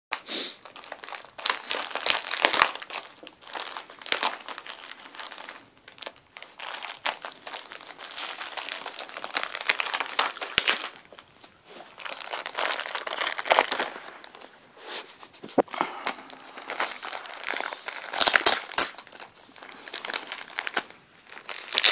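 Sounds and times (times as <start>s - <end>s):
wrapping paper crinkling: 0.5s - 21.9s.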